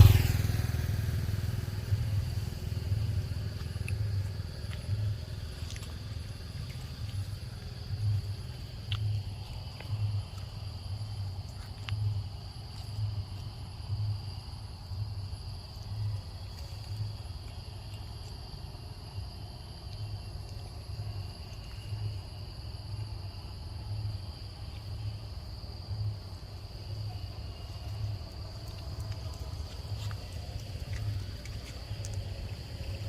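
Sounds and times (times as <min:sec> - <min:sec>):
insects calling: 0:00.0 - 0:33.0
low pulsing rumble: 0:00.0 - 0:33.0.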